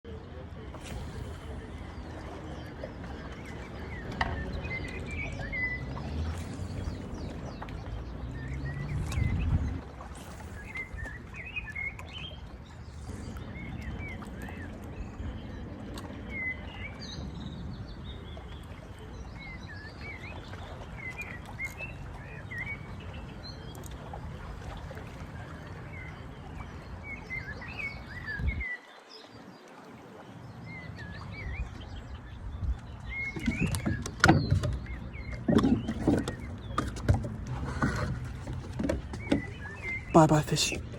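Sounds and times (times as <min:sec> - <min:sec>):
small birds chirping: 0:00.8 - 0:29.6, 0:30.4 - 0:40.9.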